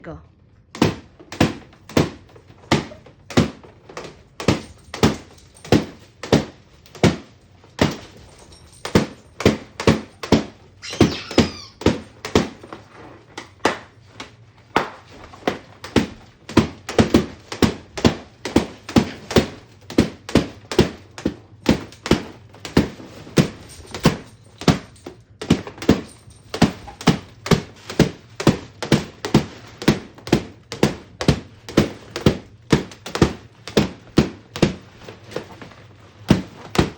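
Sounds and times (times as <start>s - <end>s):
balloons popping: 0.7s - 36.9s.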